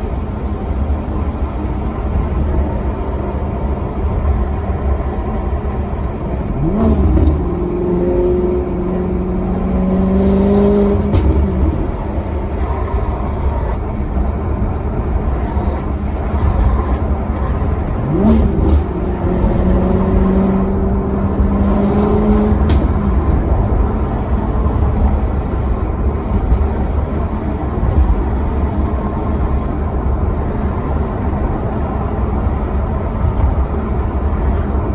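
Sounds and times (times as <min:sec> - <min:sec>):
car engine running: 0:00.0 - 0:34.9
heavy low rumble: 0:00.0 - 0:34.9.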